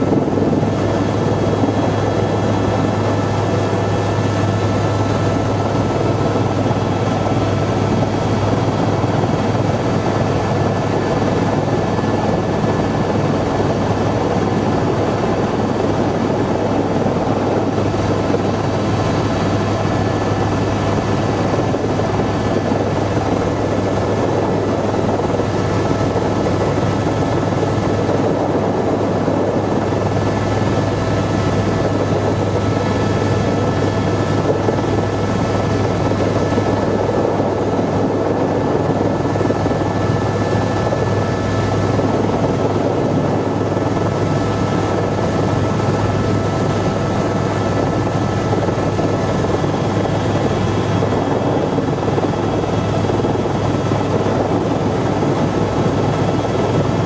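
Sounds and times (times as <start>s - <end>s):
helicopter rotor and turbine drone: 0.0s - 57.0s.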